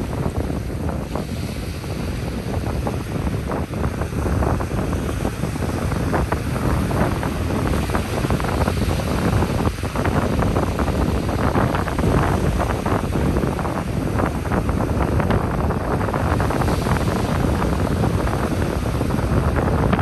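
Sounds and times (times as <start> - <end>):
ocean surf washing onto beach: 0.0 - 20.0
wind buffeting microphone: 0.0 - 20.0.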